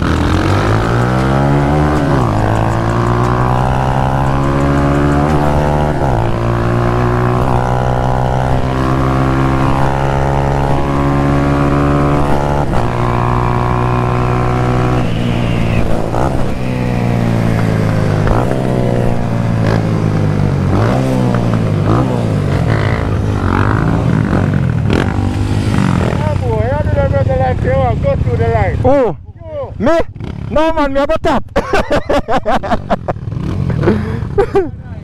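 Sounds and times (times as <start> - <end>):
motorcycle engine revving: 0.0 - 28.9, 30.0 - 30.8, 32.6 - 34.4.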